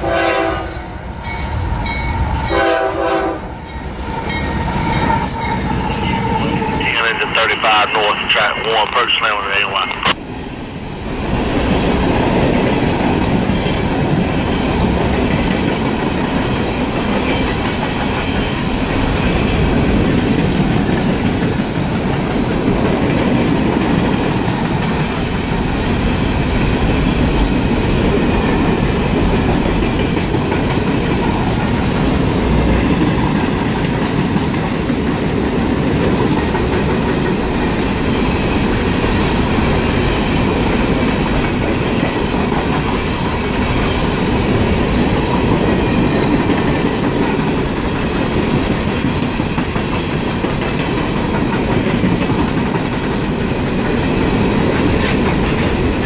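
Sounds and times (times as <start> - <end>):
train wheels rolling on rails: 10.9 - 56.0.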